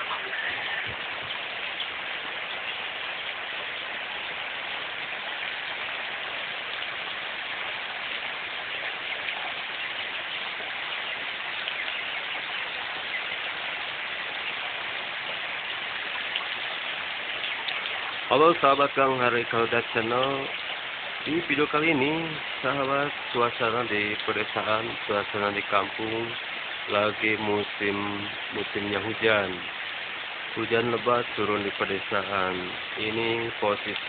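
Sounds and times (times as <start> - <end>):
heavy rain hiss: 0.0 - 34.0
raindrops ticking on surfaces: 0.0 - 34.0.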